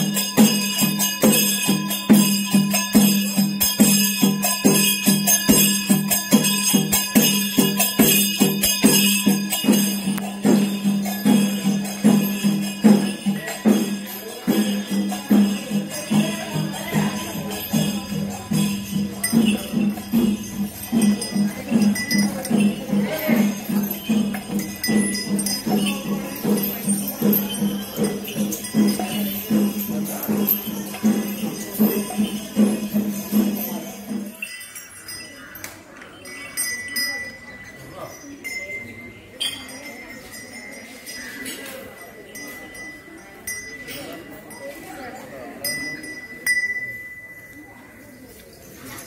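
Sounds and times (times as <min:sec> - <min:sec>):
drums beating steady rhythm: 0:00.0 - 0:48.3
cymbals clashing: 0:00.0 - 0:48.8.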